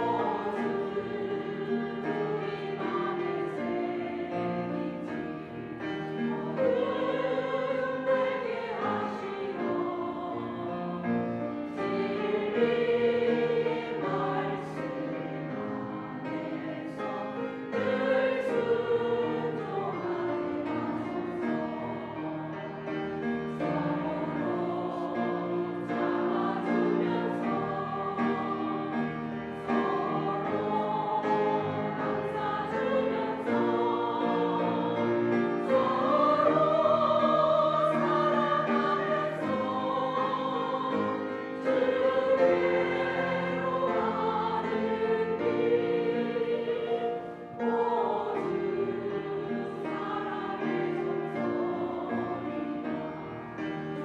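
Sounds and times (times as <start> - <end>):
women's choir singing a hymn: 0.0 - 54.0.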